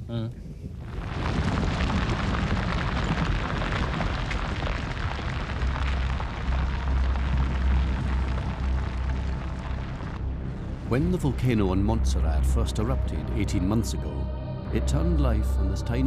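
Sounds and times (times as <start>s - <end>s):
deep low rumble: 0.0s - 16.0s
rushing rumble of pyroclastic flow: 0.4s - 16.0s.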